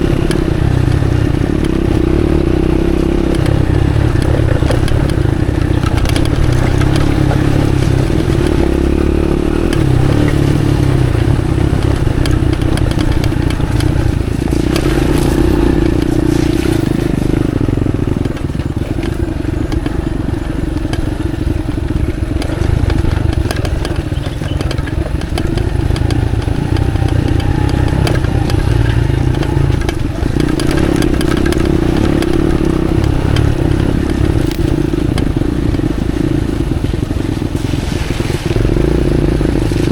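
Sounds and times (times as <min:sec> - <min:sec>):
knocks and clatter from bike: 0:00.0 - 0:39.9
motorcycle engine running: 0:00.0 - 0:39.9.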